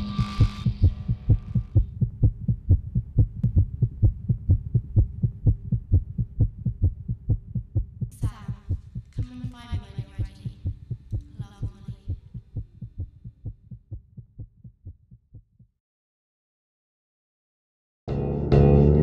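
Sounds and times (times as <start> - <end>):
fast heartbeat thuds: 0.0 - 15.7.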